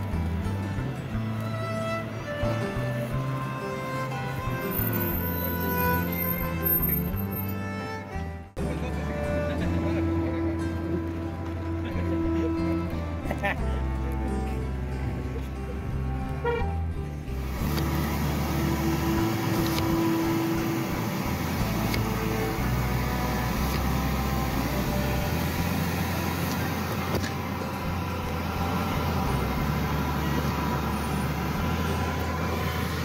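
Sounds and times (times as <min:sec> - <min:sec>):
passing road traffic: 0:00.0 - 0:33.0.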